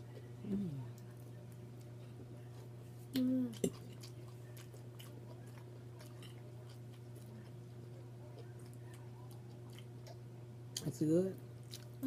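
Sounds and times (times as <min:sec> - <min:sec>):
people chewing: 0:00.0 - 0:11.0, 0:11.6 - 0:12.0
steady low hum: 0:00.0 - 0:12.0.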